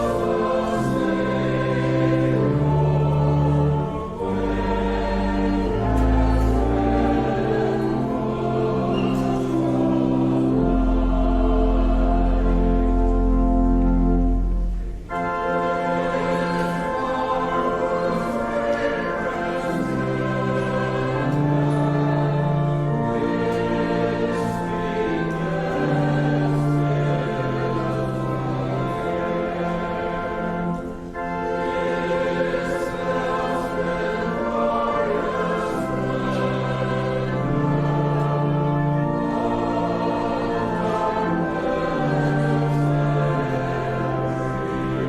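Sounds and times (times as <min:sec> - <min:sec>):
choir singing: 0:00.0 - 0:45.0
church organ chords: 0:00.0 - 0:45.0
instrumental accompaniment: 0:00.0 - 0:45.0.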